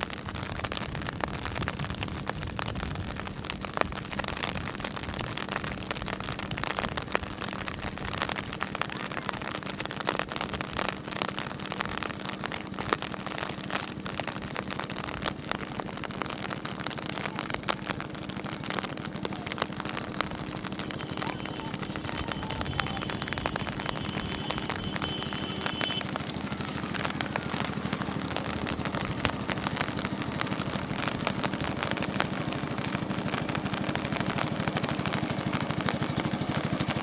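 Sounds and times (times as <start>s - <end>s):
rain pattering: 0.0s - 37.0s.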